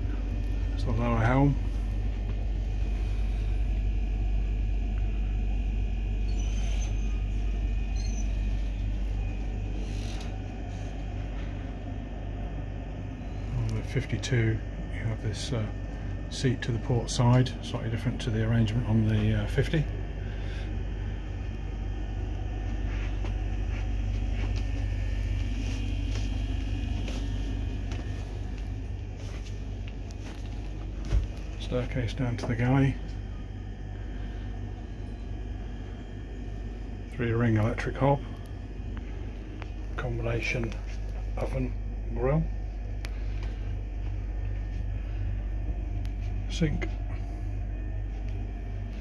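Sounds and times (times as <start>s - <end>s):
low rumbling hum: 0.0s - 49.0s.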